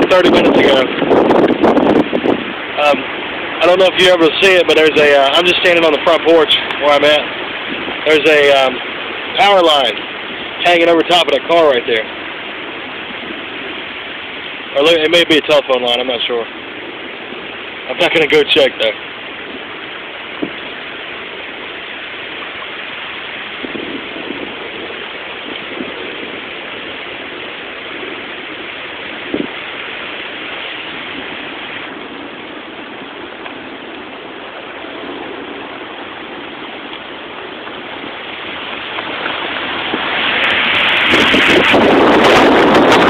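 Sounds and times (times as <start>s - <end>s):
rain and wind hiss: 0.0s - 43.0s
wind gust on microphone: 0.0s - 43.0s.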